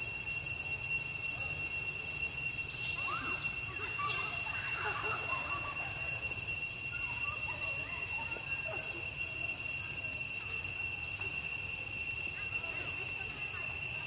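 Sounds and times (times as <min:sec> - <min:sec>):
high-pitched insect drone: 0:00.0 - 0:14.0
faint chirps and squeaks: 0:01.0 - 0:14.0.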